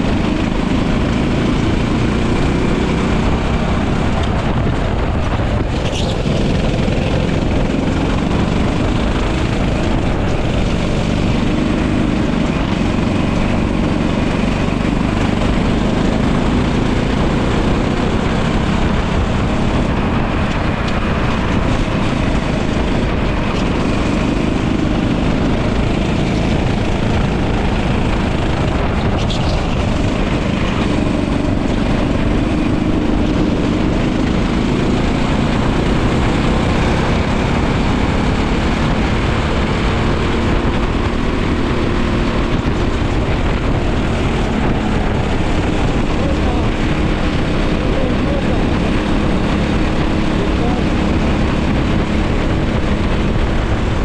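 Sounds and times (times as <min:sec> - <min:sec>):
go-kart engine running hard: 0:00.0 - 0:54.0
rush of noise: 0:00.0 - 0:54.0.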